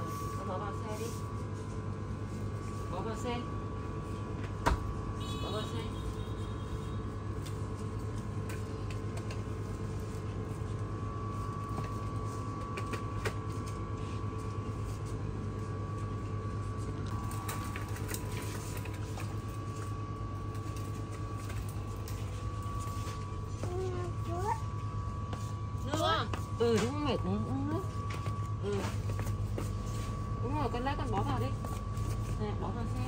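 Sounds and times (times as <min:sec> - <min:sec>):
refrigerated cooler hum: 0:00.0 - 0:33.0.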